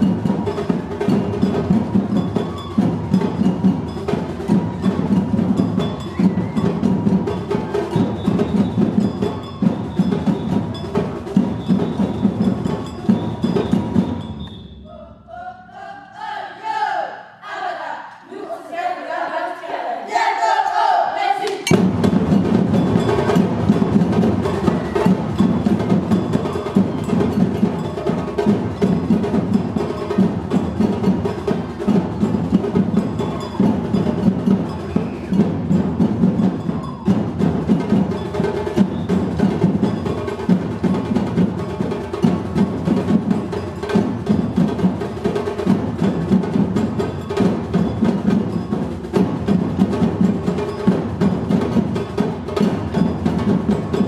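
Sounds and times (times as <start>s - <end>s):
percussion ensemble drumming: 0.0s - 15.8s, 21.1s - 54.0s.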